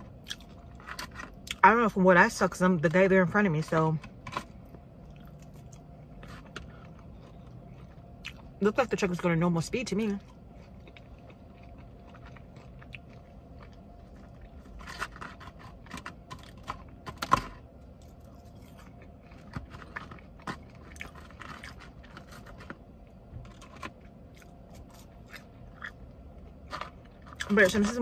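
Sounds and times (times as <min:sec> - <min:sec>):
person chewing food: 0:00.0 - 0:01.6, 0:04.1 - 0:08.6, 0:10.2 - 0:27.5
low steady hum: 0:00.0 - 0:28.0.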